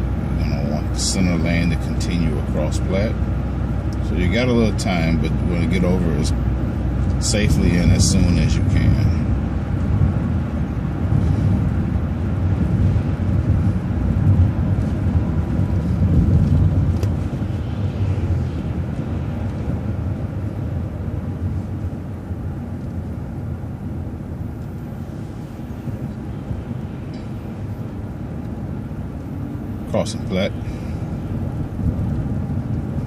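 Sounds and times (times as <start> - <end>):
bus engine and road noise: 0.0 - 33.0.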